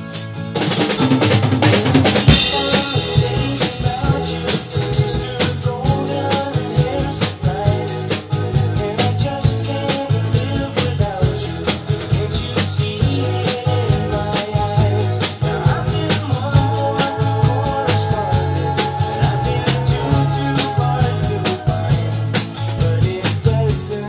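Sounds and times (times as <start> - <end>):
drum kit playing a beat: 0.0 - 24.0
recorded song with bass and guitar: 0.0 - 24.0.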